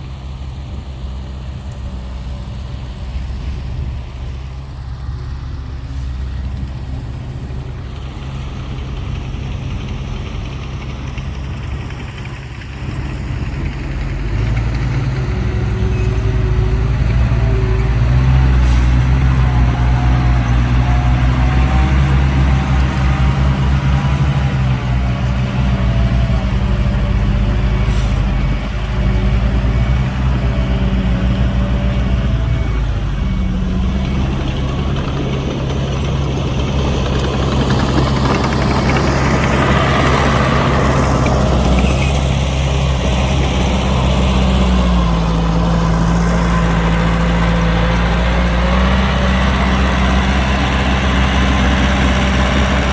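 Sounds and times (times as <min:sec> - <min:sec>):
heavy diesel engine drone: 0:00.0 - 0:52.9.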